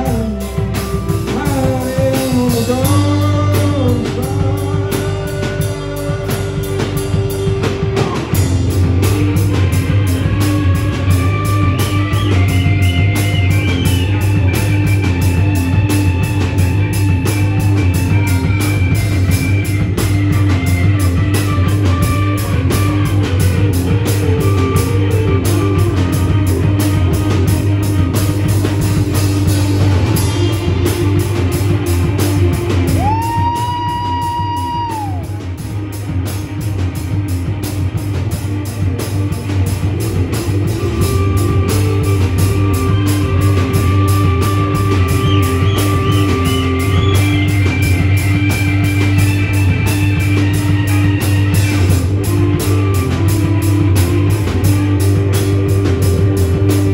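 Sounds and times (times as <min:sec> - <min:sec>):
drum kit cymbal beat: 0:00.0 - 0:56.9
live rock band playing: 0:00.0 - 0:56.9.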